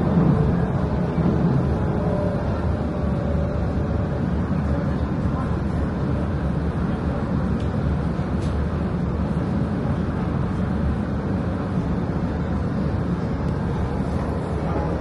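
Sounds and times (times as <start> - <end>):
low rumble of vehicle noise: 0.0 - 15.0.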